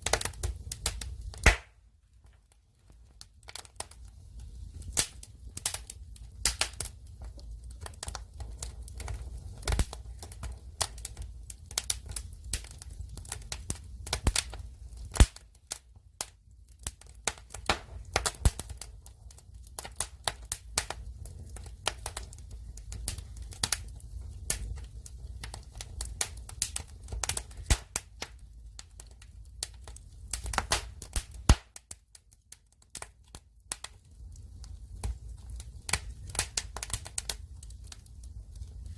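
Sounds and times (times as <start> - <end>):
low rumble of burning logs: 0.0 - 38.9
wood fire crackling: 0.0 - 38.9.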